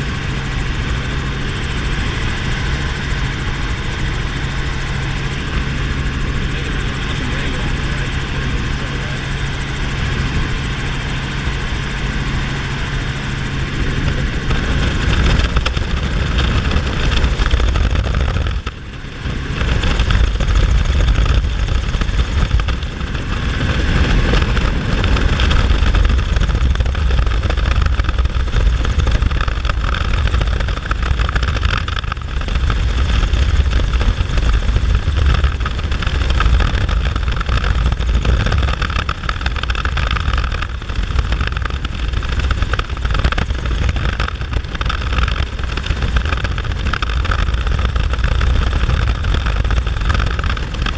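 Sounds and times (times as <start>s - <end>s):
helicopter rotor and engine drone: 0.0s - 50.9s.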